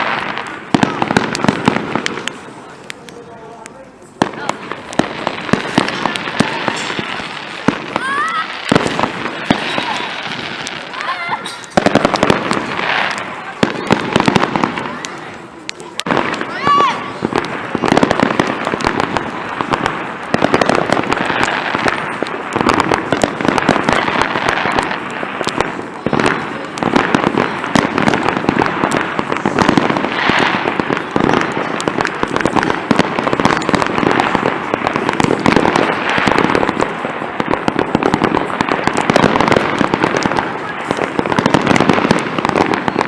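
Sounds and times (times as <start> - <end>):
fireworks cracking and popping: 0.0 - 43.0.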